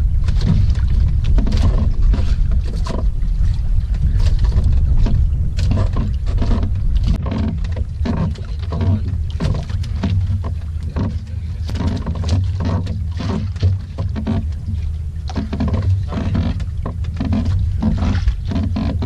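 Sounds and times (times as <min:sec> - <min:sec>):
water slapping against boat: 0:00.0 - 0:19.0
wind buffeting microphone: 0:00.0 - 0:19.0.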